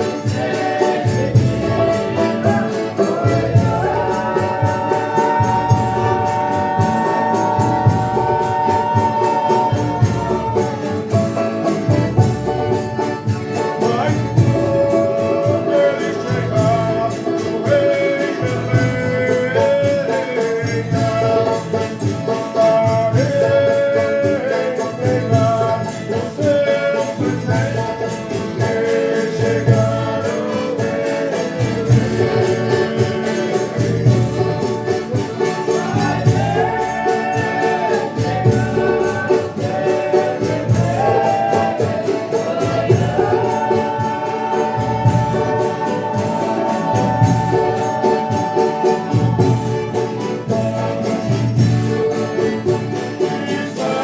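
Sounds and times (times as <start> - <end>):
group singing long sliding notes: 0.0 - 54.0
tambourine jingles: 0.0 - 54.0.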